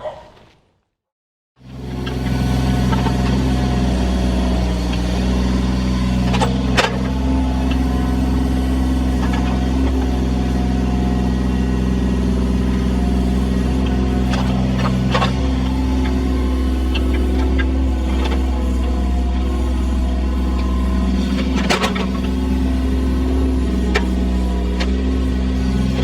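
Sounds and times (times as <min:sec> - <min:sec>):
machinery engine running: 0:01.6 - 0:26.0.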